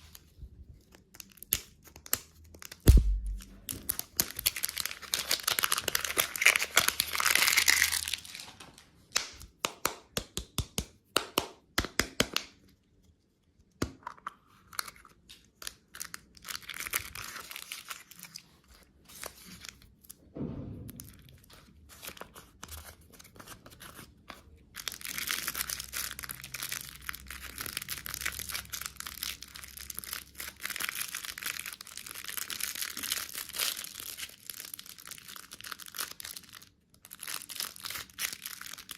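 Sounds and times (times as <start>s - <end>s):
plastic wrappers crinkling and tearing: 0.0s - 9.2s, 14.5s - 20.2s, 21.1s - 38.9s.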